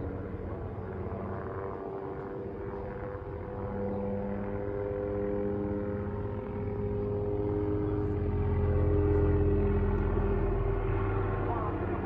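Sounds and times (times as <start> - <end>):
helicopter rotor chop: 0.0 - 12.0.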